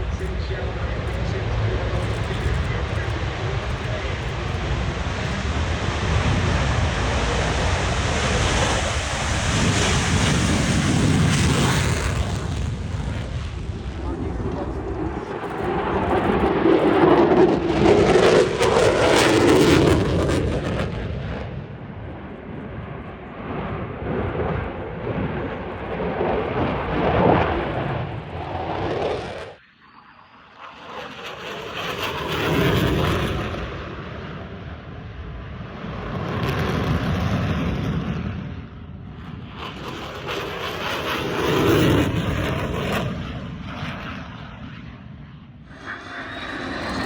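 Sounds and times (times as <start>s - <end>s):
airplanes flying past: 0.0s - 47.0s.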